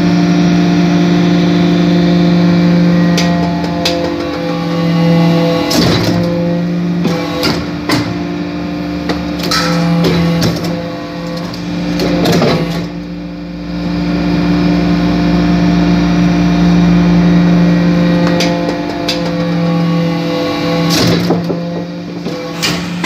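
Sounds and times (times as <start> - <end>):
hydraulic press humming: 0.0 - 23.0.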